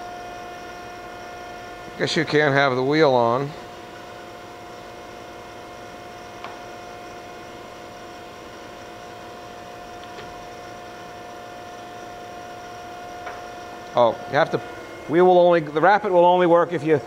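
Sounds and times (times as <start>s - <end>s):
hydraulic unit humming: 0.0s - 17.0s.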